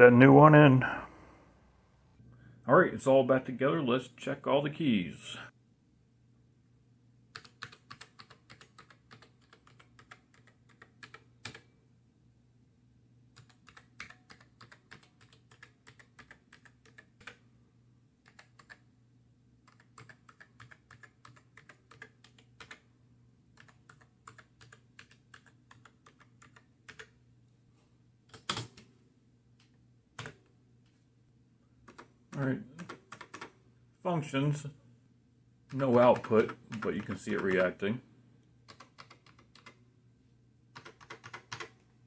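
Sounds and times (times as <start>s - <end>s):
faint low hum: 0.0s - 42.0s.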